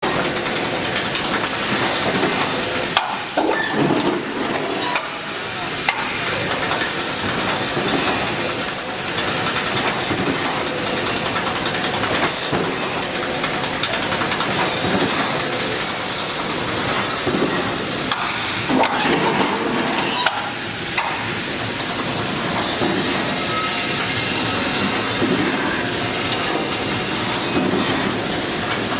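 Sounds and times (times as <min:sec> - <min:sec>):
welding machine clattering: 0:00.0 - 0:28.9.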